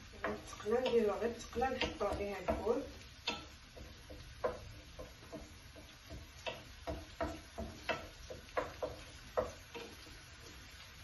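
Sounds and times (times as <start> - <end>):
herbs frying in oil: 0.0 - 11.0
wooden spatula knocking on pan: 0.1 - 10.8.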